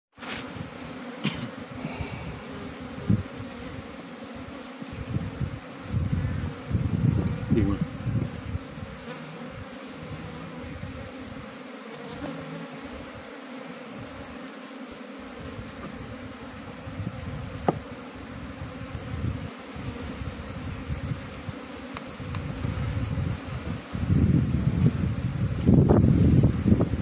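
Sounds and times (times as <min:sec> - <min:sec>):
bees buzzing: 0:00.2 - 0:27.0.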